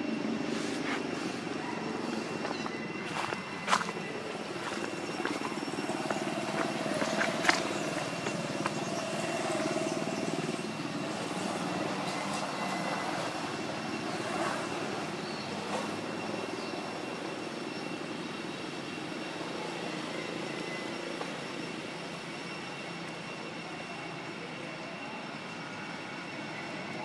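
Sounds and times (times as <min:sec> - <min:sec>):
low outdoor drone: 0:00.0 - 0:27.0.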